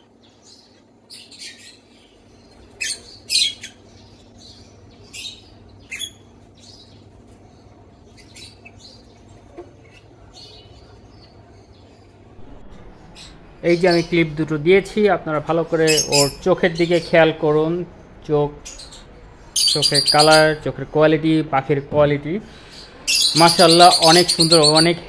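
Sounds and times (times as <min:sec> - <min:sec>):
lovebirds chirping and squawking: 0:00.0 - 0:20.7, 0:22.5 - 0:25.0
faint steady hum: 0:00.0 - 0:25.0.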